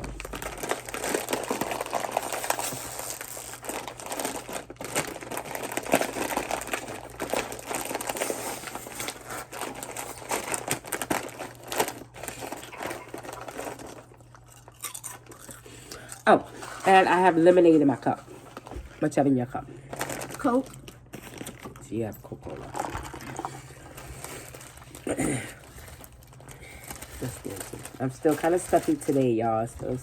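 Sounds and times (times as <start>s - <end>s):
chip bag rustling and crackling: 0.0s - 19.1s, 19.8s - 30.0s.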